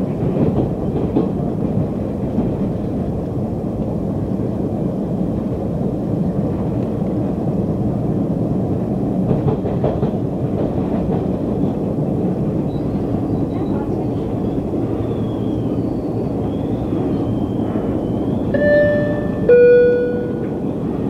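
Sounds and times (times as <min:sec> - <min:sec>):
low rumble of wheels on rail: 0:00.0 - 0:21.0.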